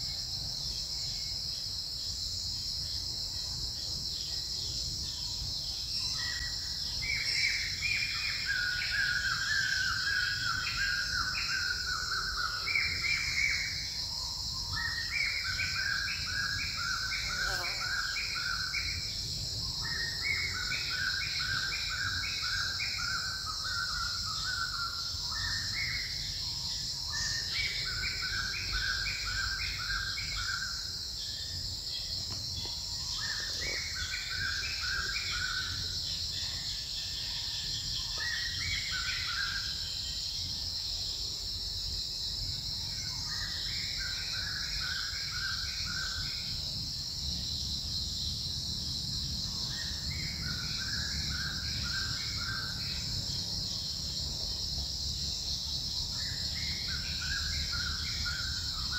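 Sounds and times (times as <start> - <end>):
high-pitched insect drone: 0.0 - 58.9.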